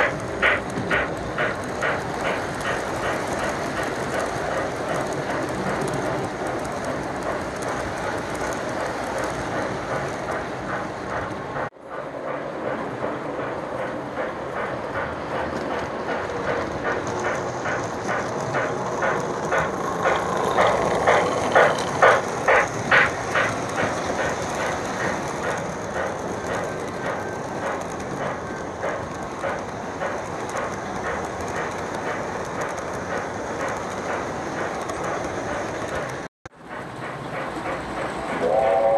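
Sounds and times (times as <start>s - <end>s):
model train wheels rumbling on rails: 0.0s - 38.9s
steam locomotive chuffing: 0.0s - 38.9s.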